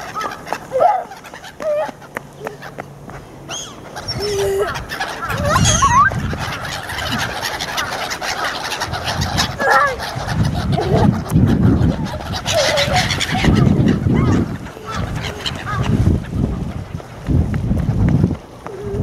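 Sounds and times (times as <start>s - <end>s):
birds squawking: 0.0s - 17.2s.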